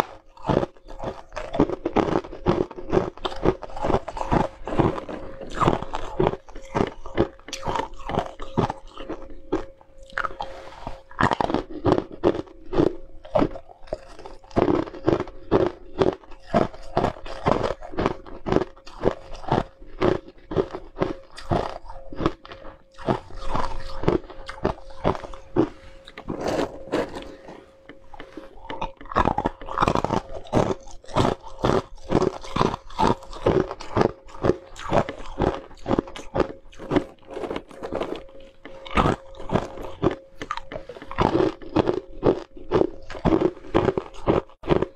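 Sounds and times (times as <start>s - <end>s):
faint steady hum: 0.0s - 44.9s
ice crunching between teeth: 0.0s - 44.9s.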